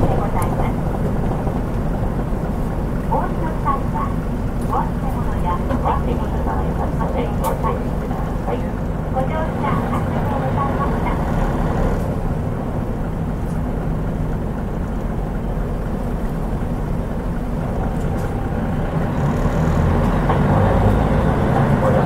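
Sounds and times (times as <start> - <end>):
bus diesel engine rumble: 0.0 - 22.0.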